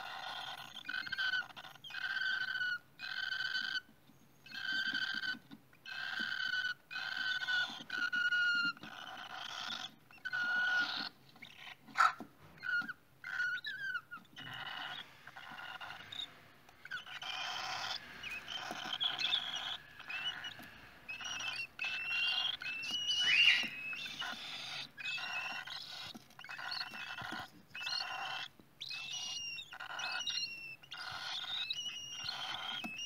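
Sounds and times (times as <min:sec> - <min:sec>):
chicks raspy begging calls: 0:00.0 - 0:33.0.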